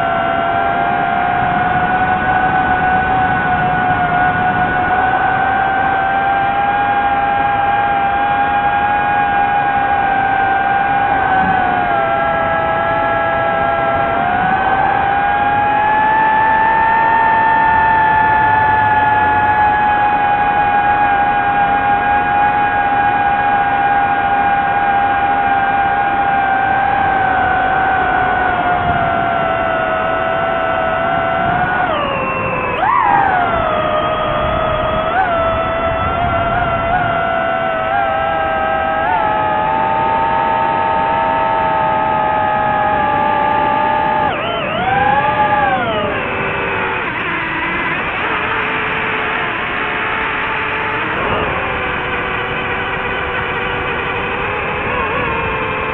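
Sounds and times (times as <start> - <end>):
drone propellers whining: 0.0 - 55.9.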